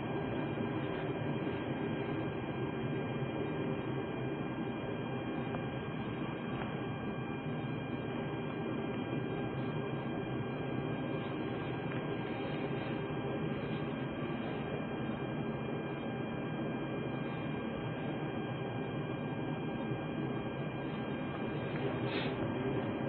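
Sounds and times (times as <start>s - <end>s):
camera recording hiss and hum: 0.0s - 23.0s.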